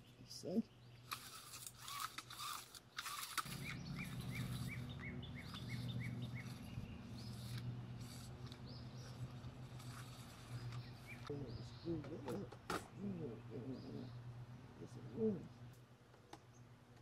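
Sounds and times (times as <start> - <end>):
bird chirping: 0.0 - 2.0, 3.4 - 16.8
steady low hum: 0.0 - 17.0.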